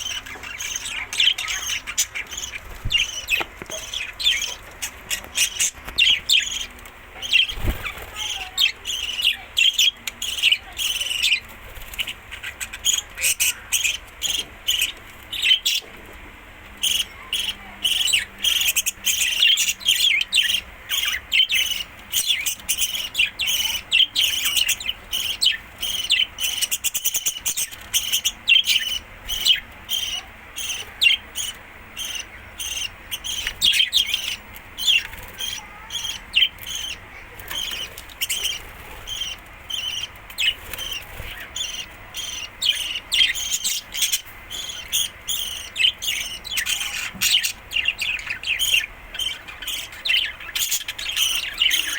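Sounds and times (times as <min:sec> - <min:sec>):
budgerigars chattering: 0:00.0 - 0:15.9, 0:16.8 - 0:51.9.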